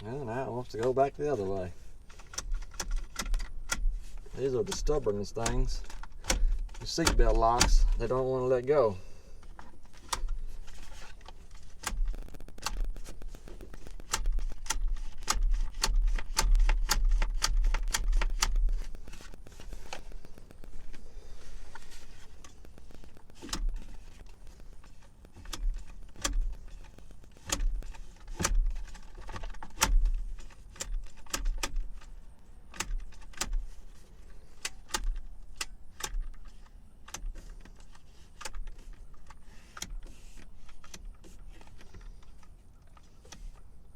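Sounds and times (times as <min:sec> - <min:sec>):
seatbelt retractor clicking and rattling: 0:00.0 - 0:08.3, 0:09.4 - 0:43.7.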